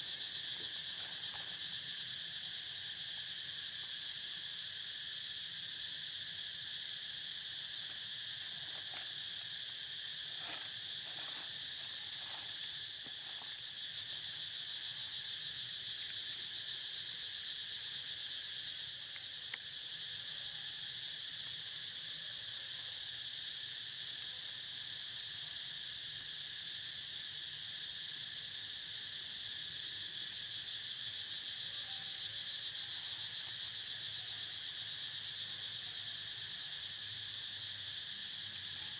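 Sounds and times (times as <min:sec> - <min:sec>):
insects chorus high drone: 0:00.0 - 0:38.9.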